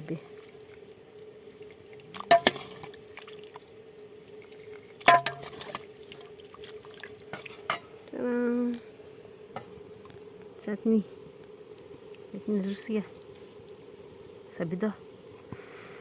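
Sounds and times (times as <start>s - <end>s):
faint insect drone: 0.0s - 16.0s.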